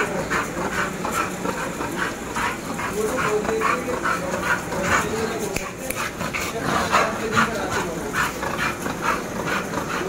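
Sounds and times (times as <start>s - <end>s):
dog making breathy sounds: 0.0s - 10.0s.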